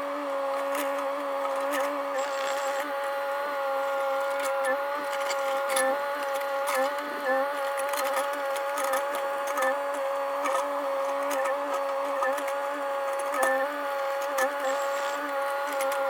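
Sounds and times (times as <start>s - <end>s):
excavator engine and hydraulics whine: 0.0s - 16.0s.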